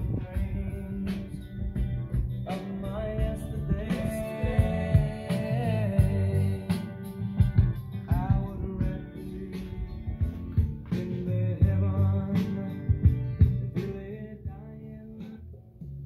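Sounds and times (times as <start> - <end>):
song played through loudspeakers: 0.0 - 16.0.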